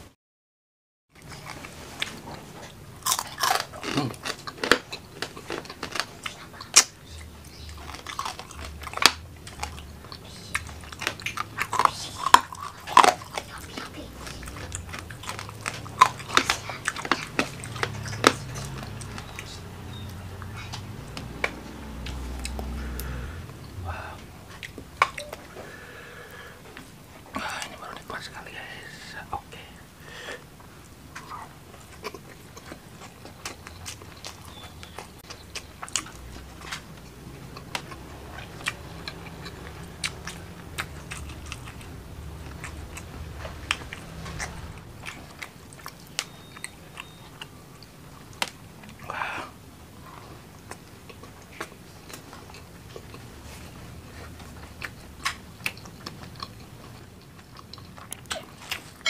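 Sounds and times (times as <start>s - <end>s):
close chewing: 1.2s - 29.7s, 30.4s - 59.0s.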